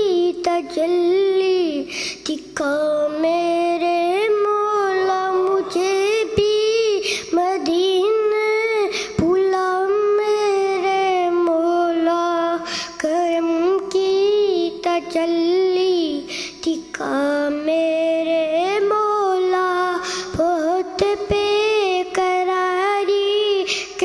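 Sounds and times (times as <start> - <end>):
boy singing unaccompanied: 0.0 - 24.0.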